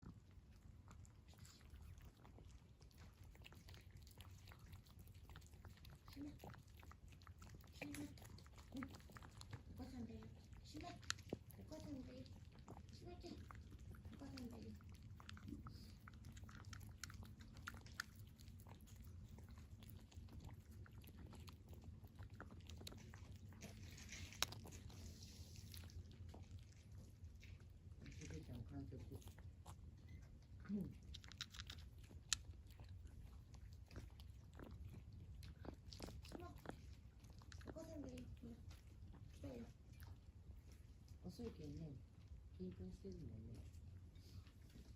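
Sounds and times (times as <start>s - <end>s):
cat chewing food: 0.0s - 44.9s.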